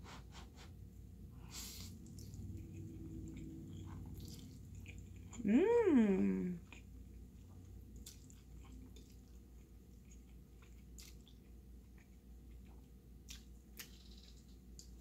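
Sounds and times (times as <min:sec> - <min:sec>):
chewing noodles: 0:01.6 - 0:05.4, 0:06.6 - 0:15.0.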